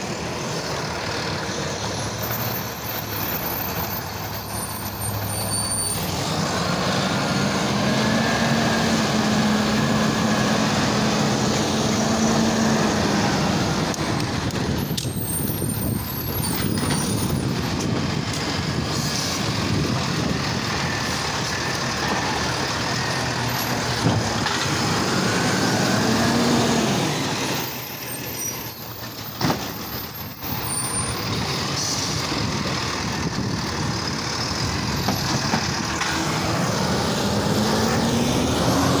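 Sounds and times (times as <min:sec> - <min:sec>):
garbage truck running: 0:00.0 - 0:39.0.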